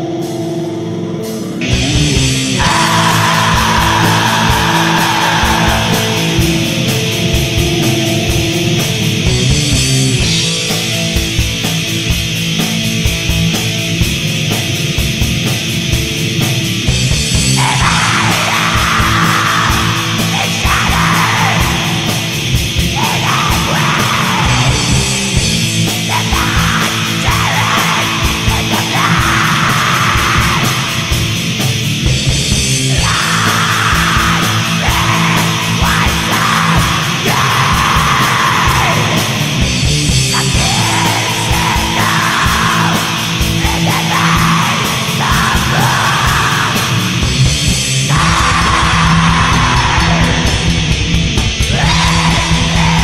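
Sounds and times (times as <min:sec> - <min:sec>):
distorted guitars and bass: 0:00.0 - 0:53.0
harsh screamed vocals: 0:01.5 - 0:10.4, 0:17.1 - 0:53.0
fast drumming: 0:01.6 - 0:53.0.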